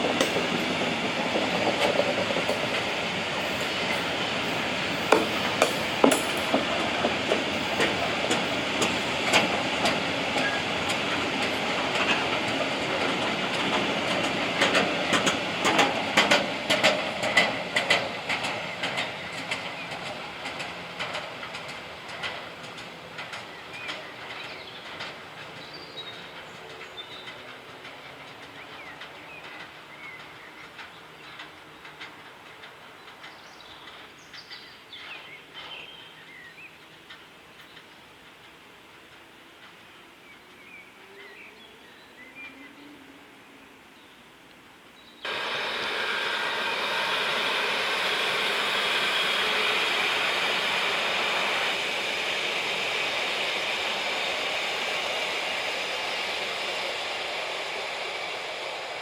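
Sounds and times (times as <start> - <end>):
train wheels clattering on rails: 0.0 - 42.3, 45.2 - 59.0.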